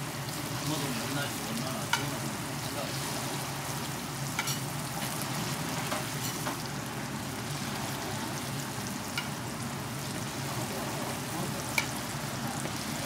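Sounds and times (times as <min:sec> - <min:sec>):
pancakes sizzling in oil: 0:00.0 - 0:13.0.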